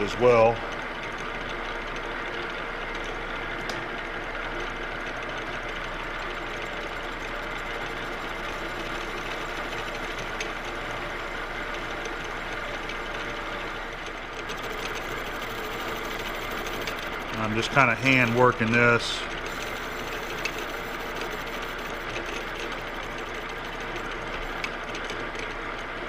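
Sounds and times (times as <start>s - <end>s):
metal lathe cutting steel: 4.8s - 25.8s.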